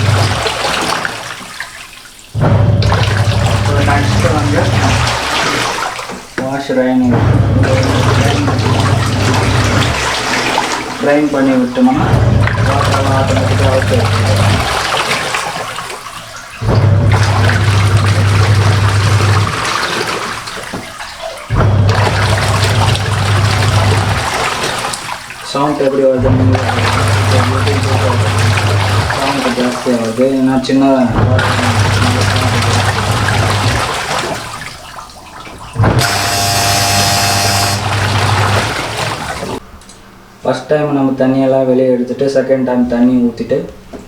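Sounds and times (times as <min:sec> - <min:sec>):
washing machine motor humming: 0:00.0 - 0:39.6
water splashing: 0:00.0 - 0:40.0.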